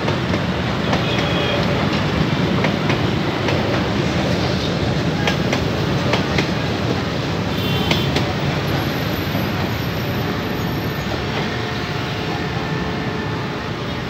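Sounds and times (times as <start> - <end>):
wheel clacks at rail joints: 0.0 - 11.6
train rolling past: 0.0 - 14.0.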